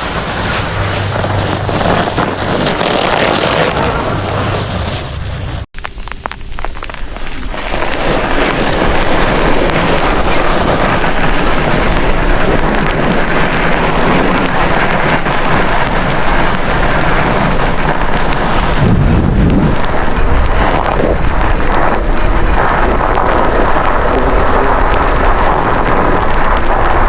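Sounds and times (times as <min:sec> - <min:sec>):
loud steady rushing noise: 0:00.0 - 0:05.9, 0:07.1 - 0:27.0.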